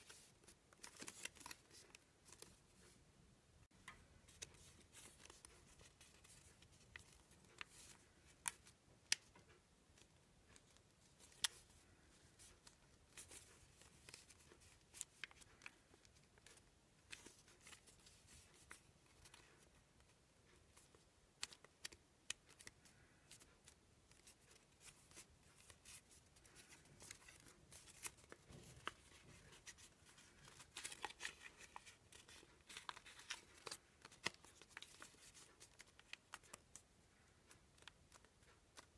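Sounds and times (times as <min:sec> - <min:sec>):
paper crinkling and rustling: 0:00.0 - 0:03.0, 0:04.2 - 0:09.3, 0:10.0 - 0:38.9.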